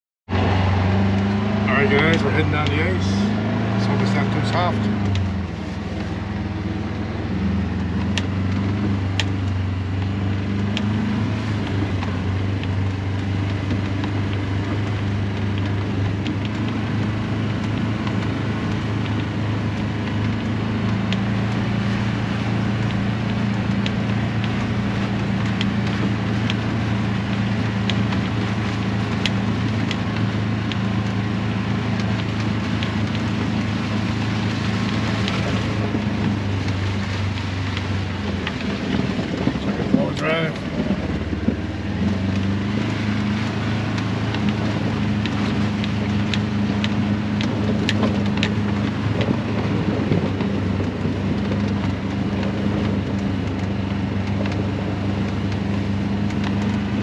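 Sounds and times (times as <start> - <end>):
road and tyre noise: 0.3 - 57.0
vehicle engine drone: 0.3 - 57.0.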